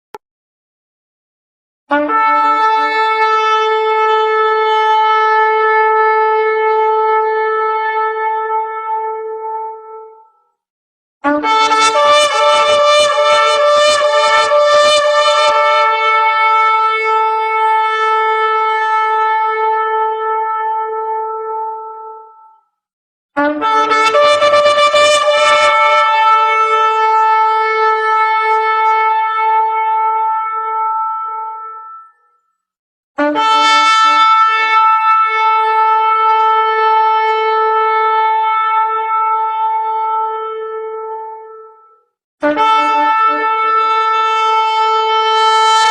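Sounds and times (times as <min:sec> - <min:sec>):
shofar long steady note: 0:01.9 - 0:10.3, 0:11.3 - 0:22.6, 0:23.4 - 0:32.2, 0:33.2 - 0:45.9.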